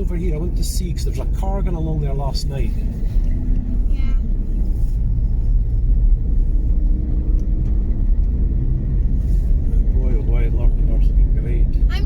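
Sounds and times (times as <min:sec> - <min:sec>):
vehicle driving on rough track: 0:00.0 - 0:12.0.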